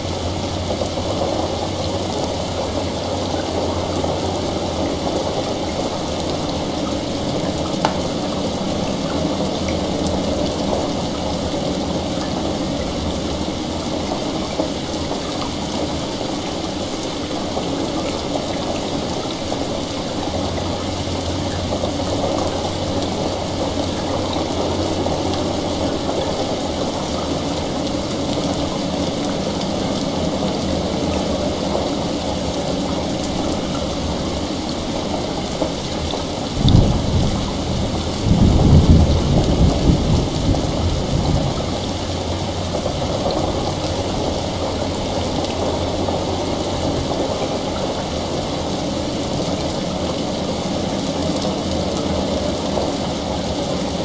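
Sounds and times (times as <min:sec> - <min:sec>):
thunder rumbling: 0:00.0 - 0:48.5
heavy rain: 0:00.0 - 0:54.0.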